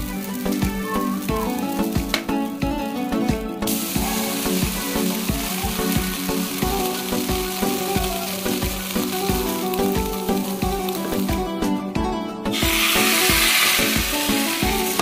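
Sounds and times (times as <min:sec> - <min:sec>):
crepe sizzling in a pan: 0:00.0 - 0:11.5, 0:12.5 - 0:15.0
background music with a beat: 0:00.0 - 0:15.0.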